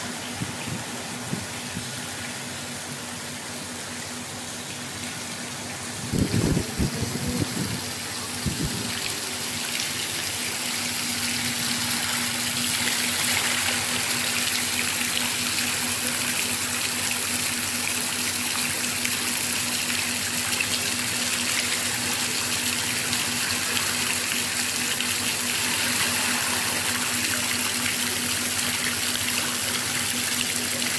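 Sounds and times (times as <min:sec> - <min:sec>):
fountain water splashing: 0:00.0 - 0:30.9.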